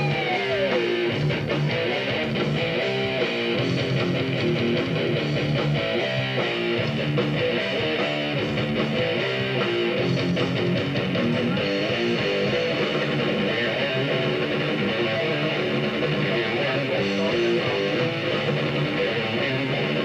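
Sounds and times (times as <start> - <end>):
electric guitar riffing: 0.0 - 20.0.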